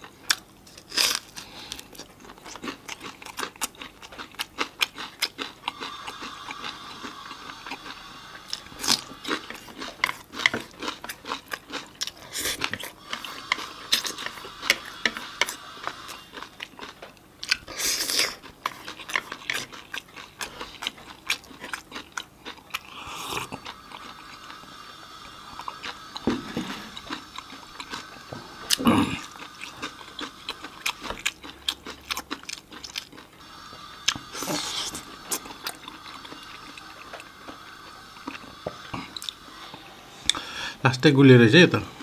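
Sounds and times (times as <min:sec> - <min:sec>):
chewing noodles: 0:00.0 - 0:40.8.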